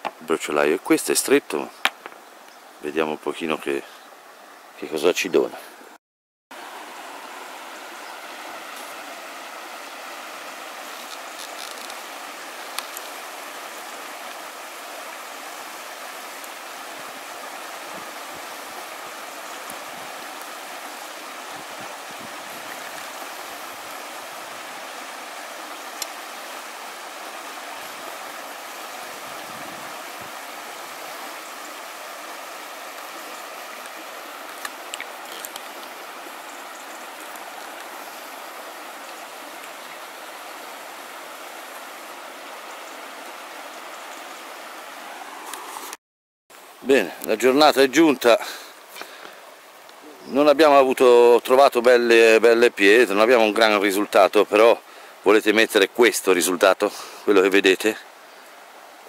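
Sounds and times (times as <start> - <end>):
river water rushing over gravel: 6.5 - 59.0.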